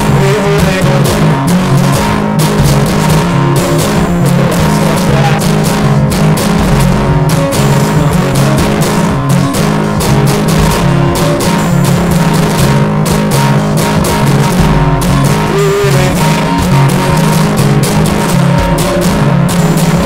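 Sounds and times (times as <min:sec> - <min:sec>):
guitar strummed: 0:00.0 - 0:20.0.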